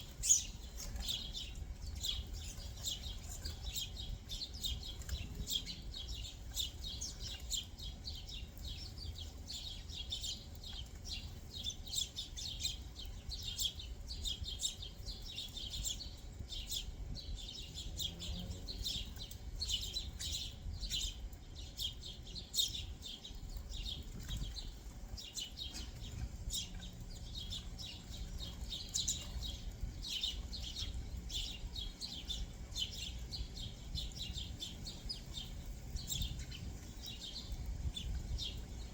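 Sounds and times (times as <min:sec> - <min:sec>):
low steady rumble: 0:00.0 - 0:38.9
songbirds chirping: 0:00.0 - 0:38.9.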